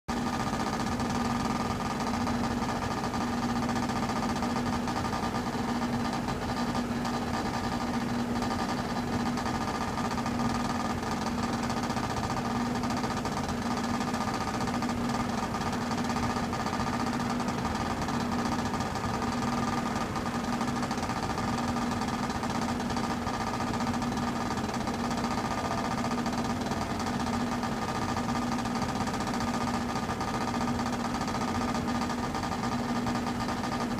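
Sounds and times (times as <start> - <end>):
heat pump droning and rattling: 0.1 - 33.9.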